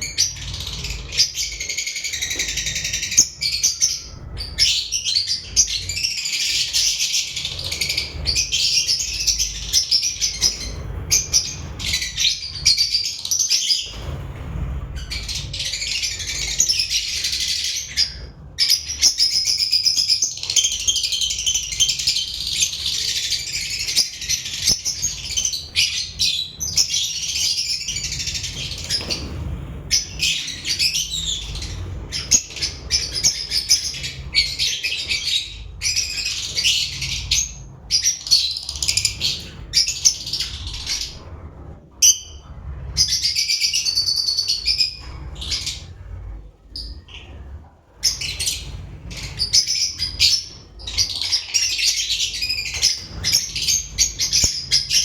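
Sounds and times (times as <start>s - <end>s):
lovebirds chirping and squeaking: 0.0s - 41.4s, 42.0s - 55.0s.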